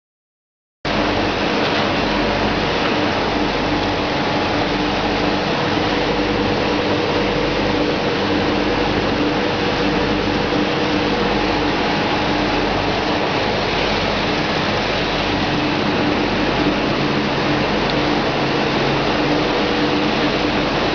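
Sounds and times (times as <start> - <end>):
oil mill machinery running: 0.9 - 20.9
steady machine hum: 0.9 - 20.9.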